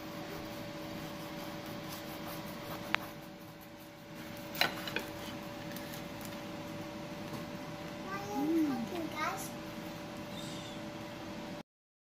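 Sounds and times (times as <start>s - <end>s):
low appliance hum: 0.0s - 11.6s.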